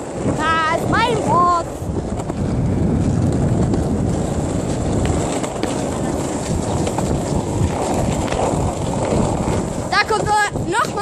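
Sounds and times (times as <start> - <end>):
plastic wheels rolling on asphalt: 0.0 - 11.0.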